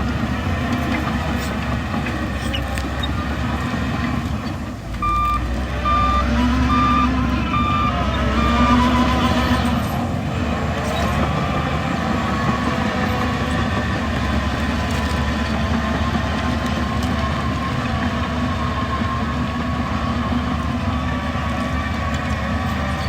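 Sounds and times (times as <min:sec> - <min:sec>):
heavy machinery diesel engine running: 0:00.0 - 0:23.0.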